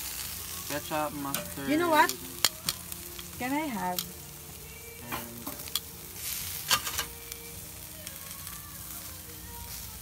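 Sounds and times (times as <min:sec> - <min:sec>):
food sizzling on a grill: 0:00.0 - 0:10.0.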